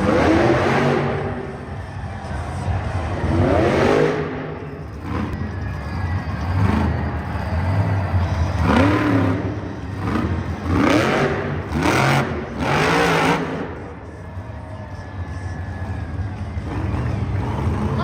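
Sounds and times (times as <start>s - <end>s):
truck engine revving hard: 0.0s - 5.6s, 6.3s - 14.1s, 16.6s - 18.0s.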